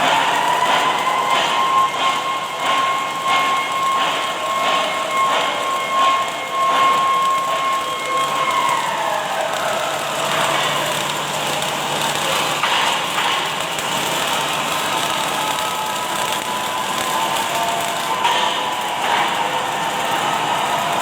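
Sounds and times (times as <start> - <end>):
welding machine hiss: 0.0 - 21.0.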